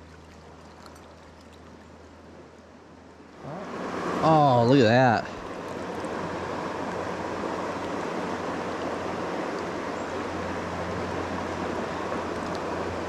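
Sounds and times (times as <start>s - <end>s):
river flowing over stones: 0.0s - 13.0s.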